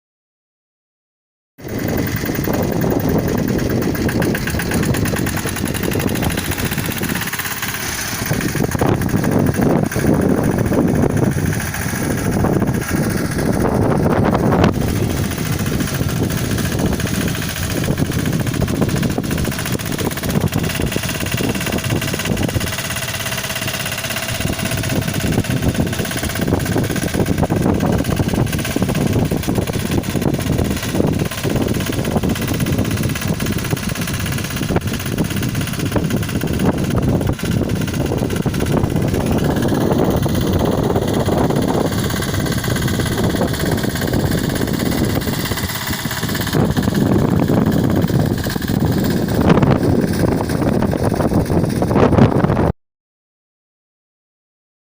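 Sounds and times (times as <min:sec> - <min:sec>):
tractor engine chugging: 0:01.6 - 0:52.7.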